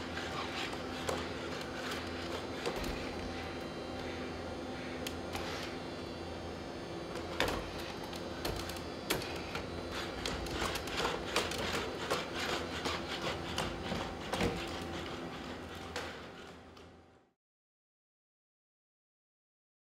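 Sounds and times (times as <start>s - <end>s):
mechanical hum: 0.0s - 17.4s.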